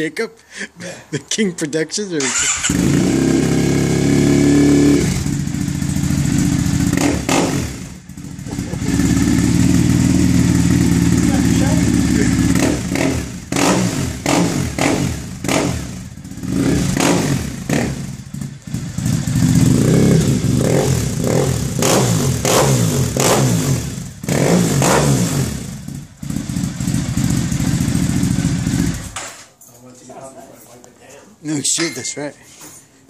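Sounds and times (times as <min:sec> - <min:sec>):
motorcycle engine revving: 0:02.2 - 0:29.2.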